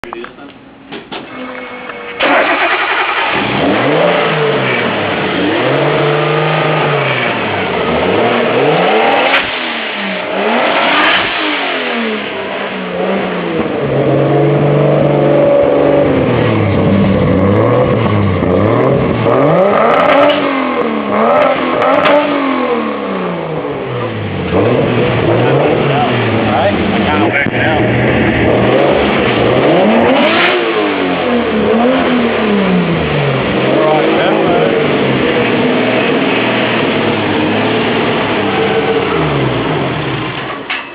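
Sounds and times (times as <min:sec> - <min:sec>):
car engine revving: 0:01.2 - 0:40.7.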